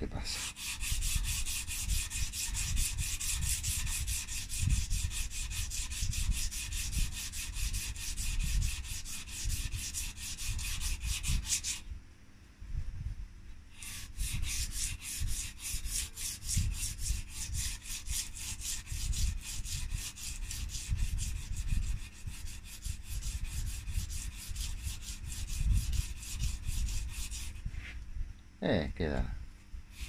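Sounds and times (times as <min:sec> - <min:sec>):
sandpaper rasping on metal bar: 0:00.2 - 0:11.8, 0:13.7 - 0:27.6.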